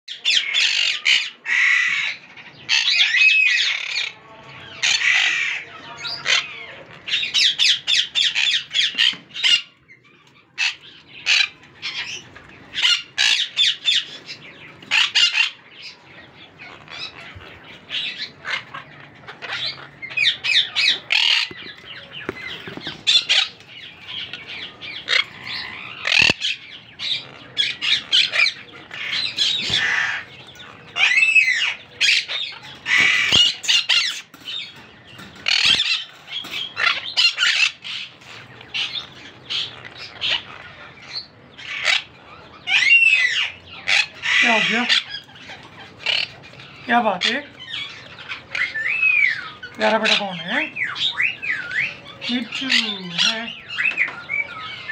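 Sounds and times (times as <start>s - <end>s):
parakeets squawking: 0.1s - 54.9s.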